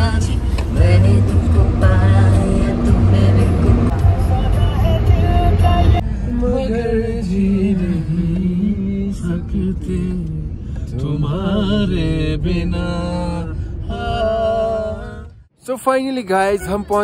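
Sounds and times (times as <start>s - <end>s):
car cabin rumble: 0.0s - 15.4s.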